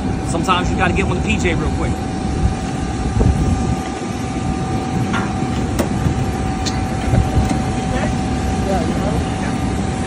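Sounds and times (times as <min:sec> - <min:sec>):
jet aircraft rumble and whine: 0:00.0 - 0:10.0.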